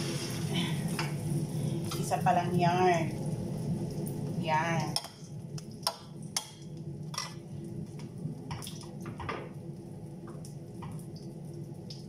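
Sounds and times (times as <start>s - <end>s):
food frying in hot oil: 0.0s - 12.0s.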